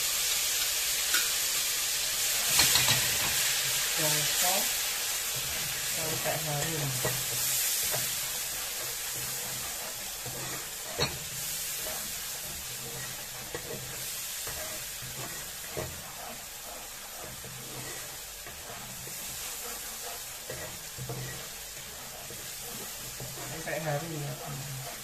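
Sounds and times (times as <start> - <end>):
paste sizzling in hot oil: 0.0 - 25.0
metal spatula scraping pan: 2.2 - 25.0.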